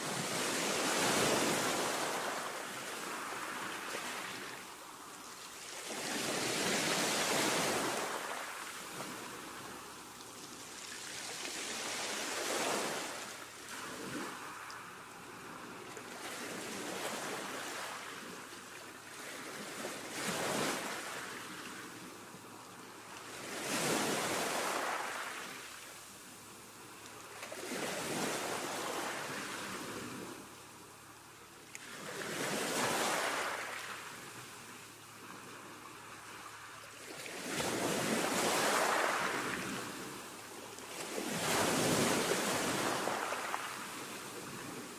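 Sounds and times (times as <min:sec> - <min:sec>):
ocean waves: 0:00.0 - 0:44.9.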